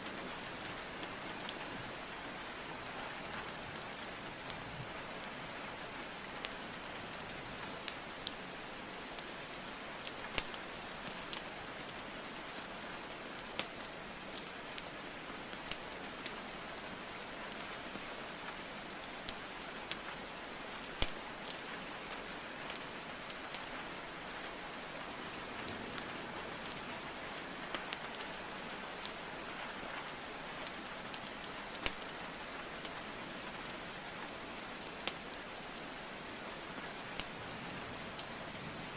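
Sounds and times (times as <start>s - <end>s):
steady rainfall hiss: 0.0s - 38.9s
burning logs crackling and popping: 3.1s - 16.5s, 17.2s - 23.7s, 24.5s - 38.4s.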